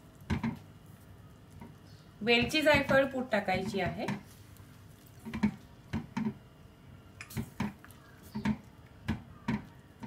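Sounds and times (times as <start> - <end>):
wet stirring in a pan: 0.0 - 10.0.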